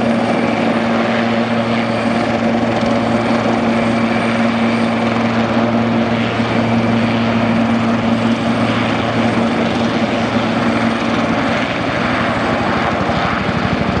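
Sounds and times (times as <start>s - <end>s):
helicopter engines and rotor drone: 0.0s - 14.0s.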